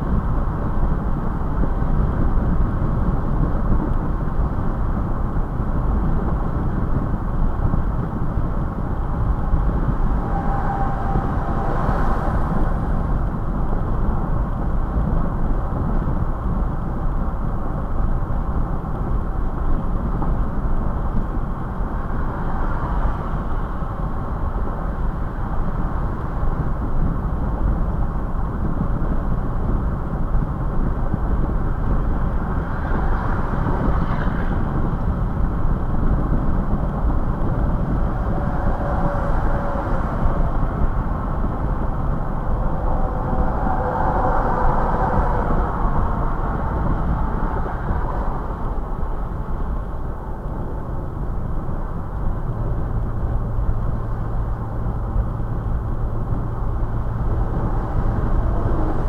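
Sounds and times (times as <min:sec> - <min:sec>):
road tyre and wind noise in car: 0:00.0 - 0:59.0.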